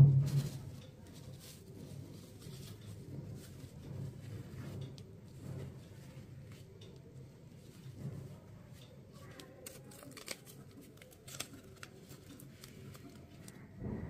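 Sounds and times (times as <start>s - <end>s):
fabric rustling: 0.0s - 13.8s.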